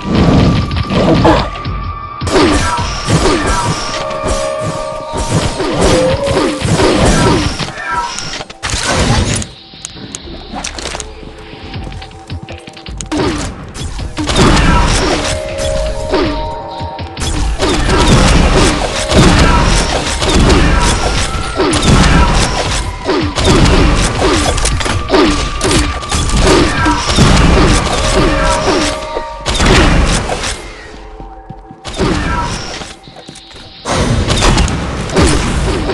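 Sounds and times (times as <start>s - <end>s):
music playing: 0.0s - 34.0s.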